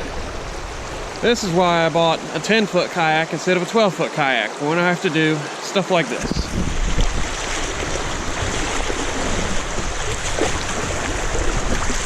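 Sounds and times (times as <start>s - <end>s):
river water rushing over rapid: 0.0s - 12.0s.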